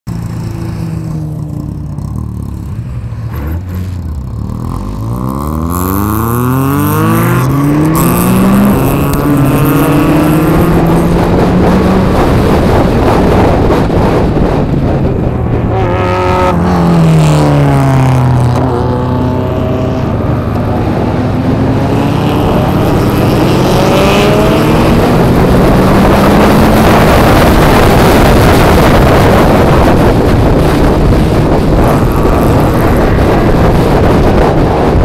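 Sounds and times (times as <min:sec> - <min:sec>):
car engine accelerating: 0:00.1 - 0:35.0.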